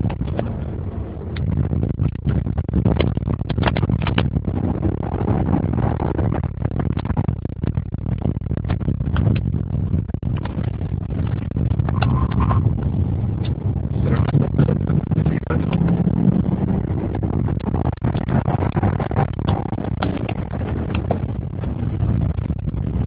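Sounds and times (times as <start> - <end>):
car engine low drone: 0.0 - 23.0.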